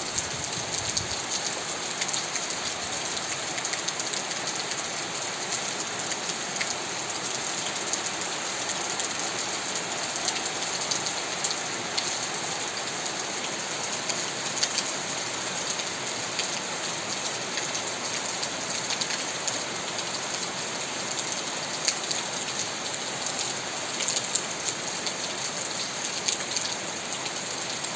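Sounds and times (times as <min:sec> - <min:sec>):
heavy rain: 0:00.0 - 0:27.9
raindrops splattering on surface: 0:00.1 - 0:27.9.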